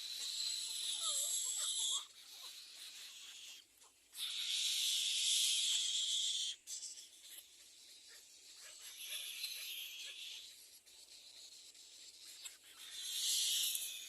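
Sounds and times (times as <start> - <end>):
nestlings raspy begging calls: 0.0 - 14.0.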